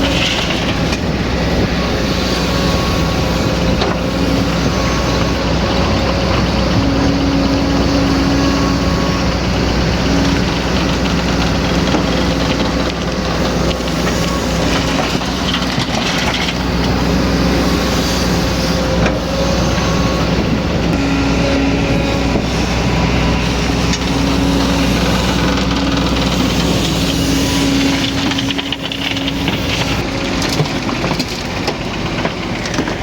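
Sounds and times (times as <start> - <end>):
humming tone: 0.0 - 30.2
excavator diesel engine running: 0.0 - 33.0.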